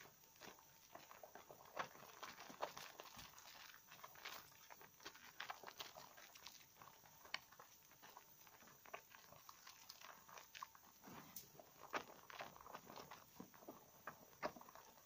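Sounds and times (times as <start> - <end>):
soap suds squelching: 0.4 - 11.0, 11.6 - 15.0.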